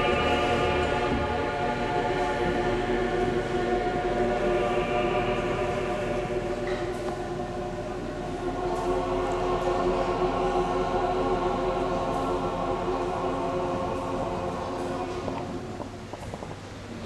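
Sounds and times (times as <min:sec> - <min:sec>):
church choir singing: 0:00.0 - 0:16.1.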